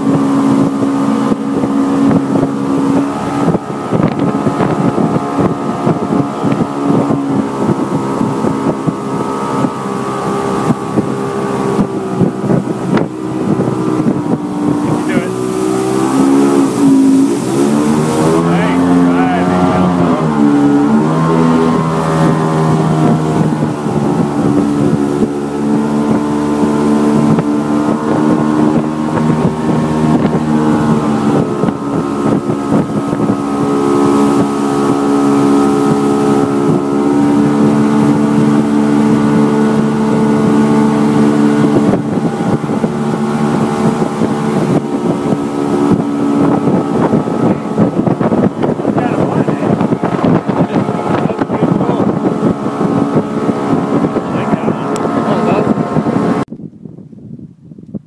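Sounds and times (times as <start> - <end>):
motorboat engine running: 0.0 - 58.0
wind noise on microphone: 0.0 - 58.0.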